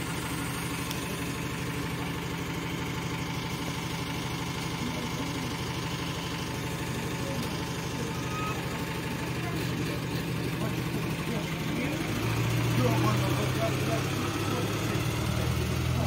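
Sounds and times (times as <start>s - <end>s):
bus diesel engine idling: 0.0s - 16.0s.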